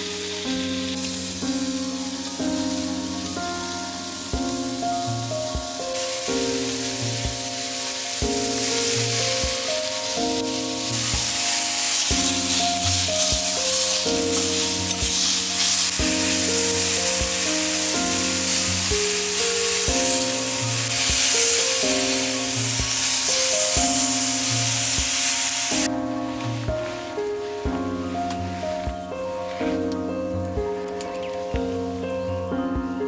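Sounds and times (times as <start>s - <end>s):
meat sizzling on a griddle: 0.0s - 32.1s
music with steady beat: 0.0s - 33.0s.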